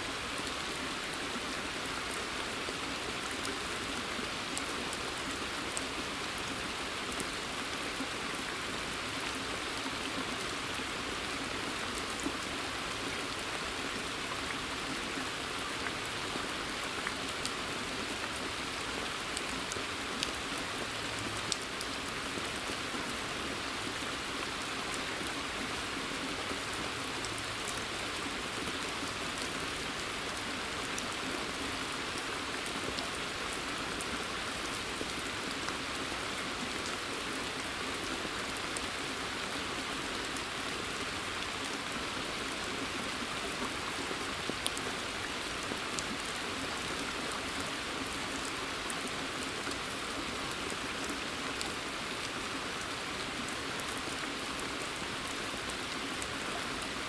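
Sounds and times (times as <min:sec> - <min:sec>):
rain hissing in forest: 0:00.0 - 0:57.0.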